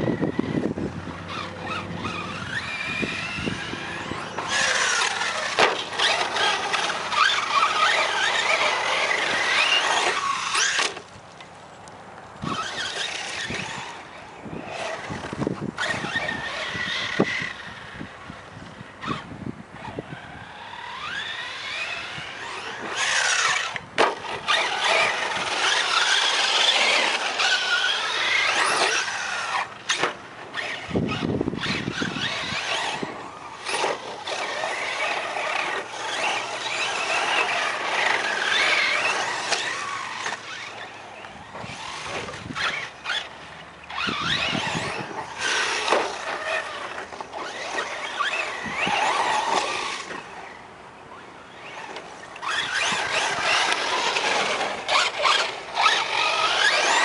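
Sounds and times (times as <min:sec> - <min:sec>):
electric motor whining: 0:00.0 - 0:11.1, 0:12.4 - 0:57.0
tyres on gravel: 0:00.0 - 0:57.0.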